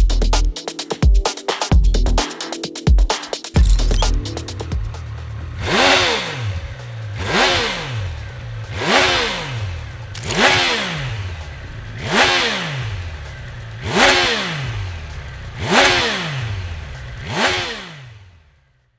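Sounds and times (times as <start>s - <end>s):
motorcycle engine revving: 3.6s - 18.9s.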